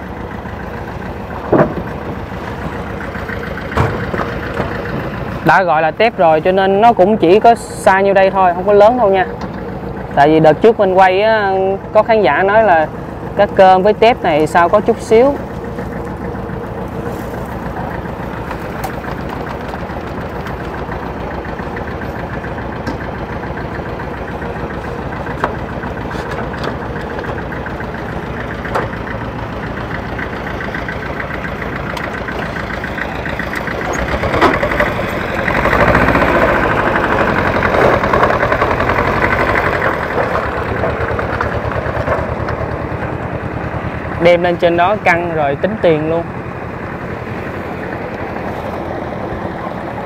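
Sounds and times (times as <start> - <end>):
boat engine running steadily: 0.0 - 50.0.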